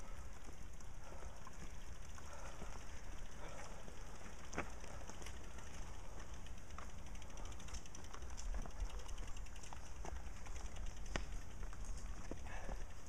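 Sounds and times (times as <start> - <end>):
bike freewheel ticking: 0.0 - 13.0.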